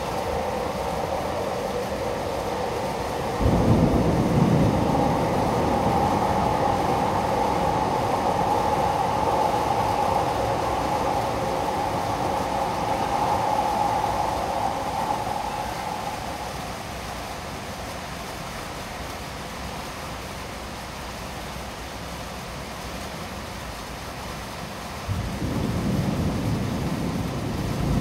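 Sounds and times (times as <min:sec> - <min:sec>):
torrential rain pouring: 0:00.0 - 0:28.0.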